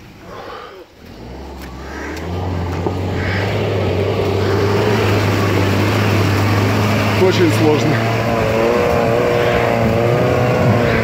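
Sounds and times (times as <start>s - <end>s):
suv engine running at low revs: 0.0s - 11.0s.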